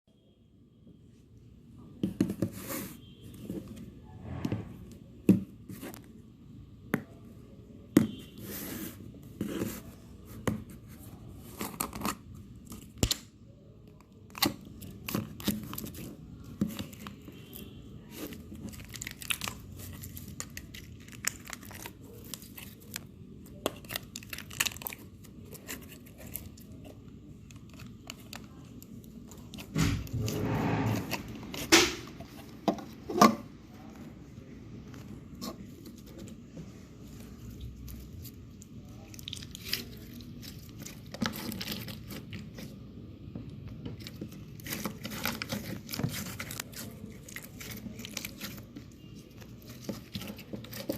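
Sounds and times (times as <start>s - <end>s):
slime squelching: 8.1s - 50.9s.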